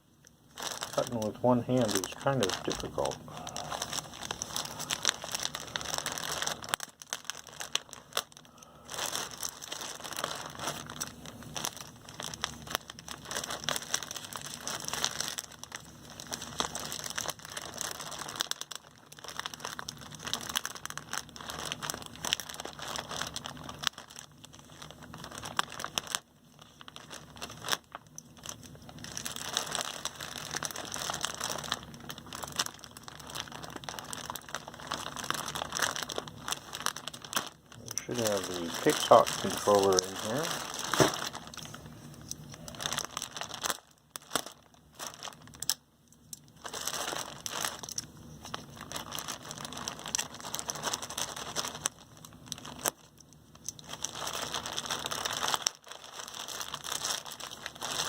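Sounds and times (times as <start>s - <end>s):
packaging crinkling and rustling: 0.2s - 58.0s.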